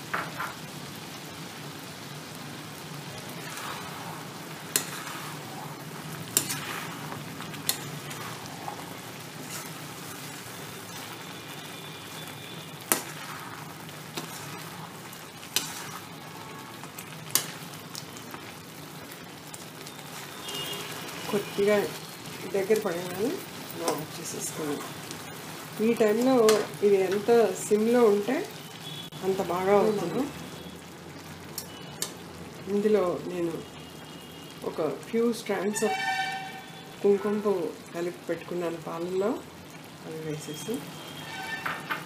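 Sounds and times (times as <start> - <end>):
pumpkin halwa sizzling in pan: 0.0 - 42.0.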